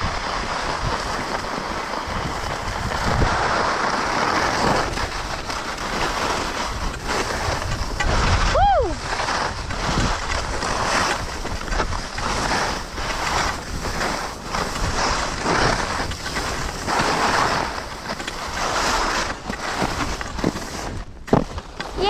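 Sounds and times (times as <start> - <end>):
skis scraping on snow: 0.0 - 22.0
wind rushing over microphone: 0.0 - 22.0.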